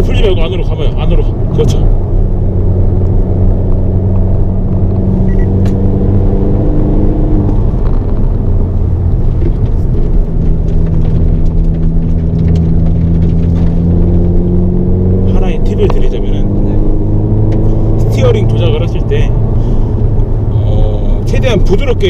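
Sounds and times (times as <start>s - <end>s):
car engine pulling hard: 0.0s - 22.0s
road and tyre noise: 0.0s - 22.0s.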